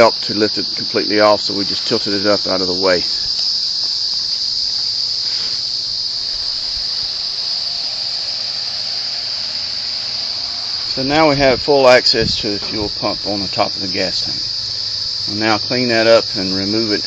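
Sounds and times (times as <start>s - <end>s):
insects chorus drone: 0.0s - 17.0s.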